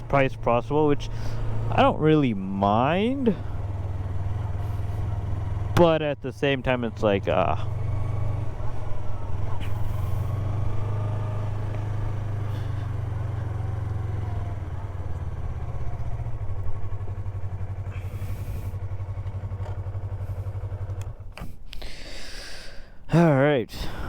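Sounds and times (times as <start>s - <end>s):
motorcycle engine running: 0.0s - 21.6s.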